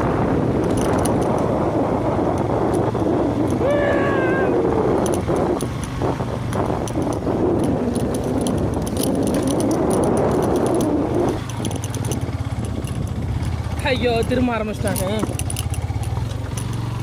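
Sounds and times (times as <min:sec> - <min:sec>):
bike clicking and rattling: 0:00.0 - 0:17.0
motorcycle engine running: 0:00.0 - 0:17.0.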